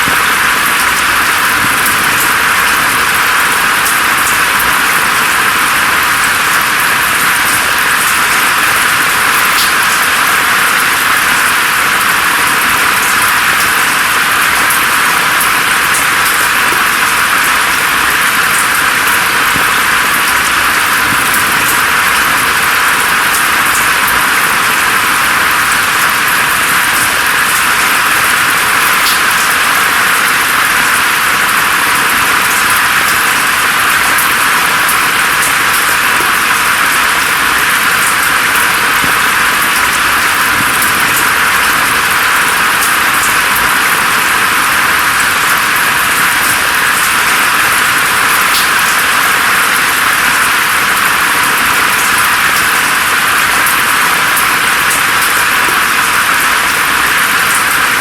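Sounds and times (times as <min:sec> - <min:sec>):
raindrops pattering: 0:00.0 - 0:58.0
steady rain hiss: 0:00.0 - 0:58.0.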